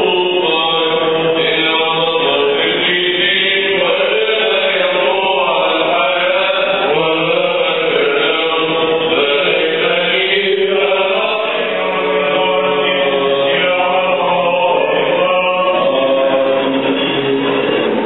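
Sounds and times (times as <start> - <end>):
steady low drone: 0.0 - 18.0
voices chanting: 0.0 - 18.0.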